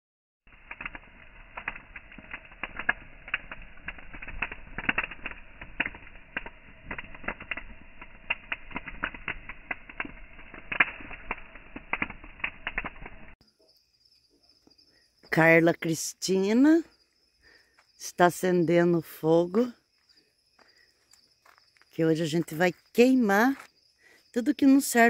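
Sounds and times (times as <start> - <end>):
bonfire crackling and popping: 0.5 - 25.0
fire low rumble: 0.5 - 25.0.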